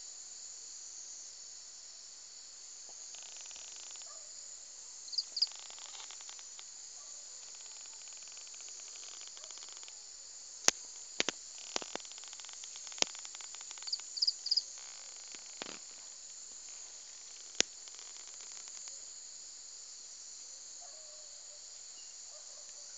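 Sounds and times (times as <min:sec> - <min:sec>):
insect chorus: 0:00.0 - 0:22.9.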